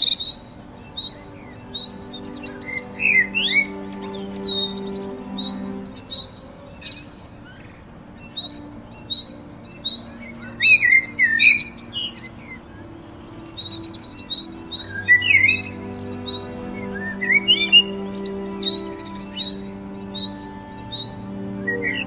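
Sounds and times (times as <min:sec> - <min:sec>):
whistled bird twittering: 0:00.0 - 0:22.0.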